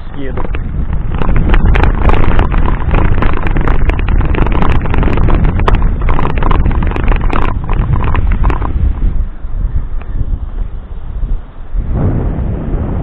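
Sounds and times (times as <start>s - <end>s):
bike rattles and clicks: 0.0s - 10.8s
wind buffeting microphone: 0.0s - 13.0s.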